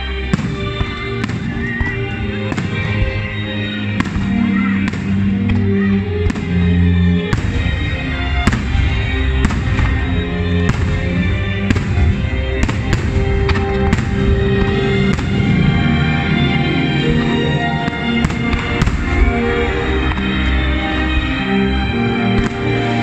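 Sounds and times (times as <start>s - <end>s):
music with held notes: 0.0s - 23.0s
fireworks bursting with bangs: 0.2s - 21.5s, 22.1s - 23.0s.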